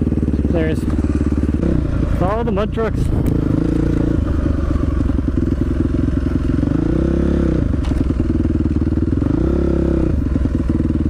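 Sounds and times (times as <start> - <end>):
dirt bike engine under throttle: 0.0 - 11.0.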